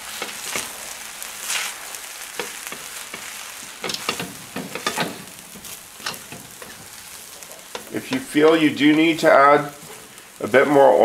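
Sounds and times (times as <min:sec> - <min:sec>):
fried rice sizzling in a pan: 0:00.0 - 0:11.0
spatula scraping a pan: 0:01.4 - 0:10.4.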